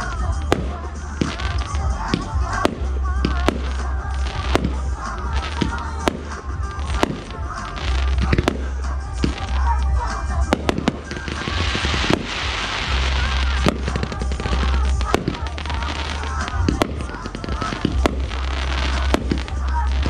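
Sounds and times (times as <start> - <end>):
fireworks bursting with sharp bangs: 0.0 - 20.0
fireworks crackle: 0.0 - 20.0.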